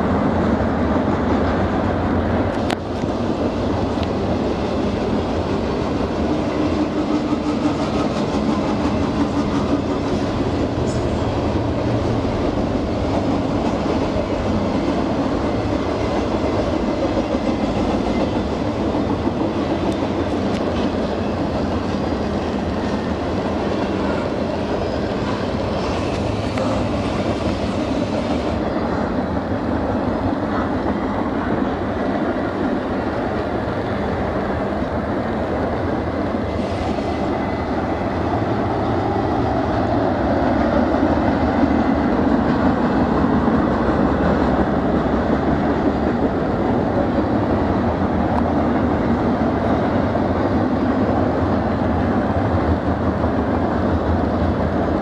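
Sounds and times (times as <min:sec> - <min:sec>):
steel wheels on rail: 0:00.0 - 0:55.0.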